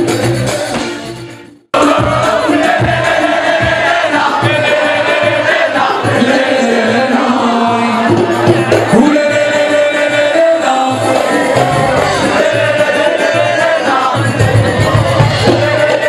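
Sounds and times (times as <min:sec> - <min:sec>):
amplified live music with singing: 0:00.0 - 0:16.0
crowd cheering: 0:01.8 - 0:16.0.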